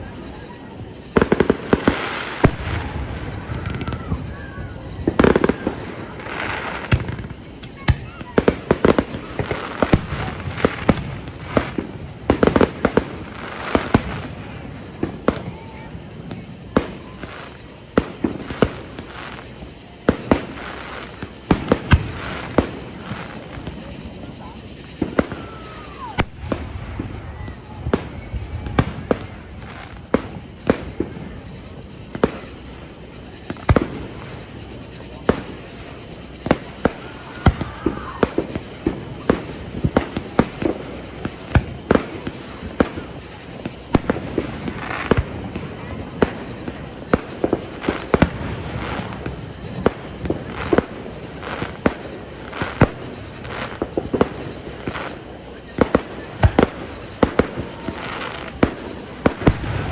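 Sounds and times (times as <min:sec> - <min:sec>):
crackling hiss: 0:00.0 - 0:59.9
firework bangs: 0:00.0 - 0:59.9.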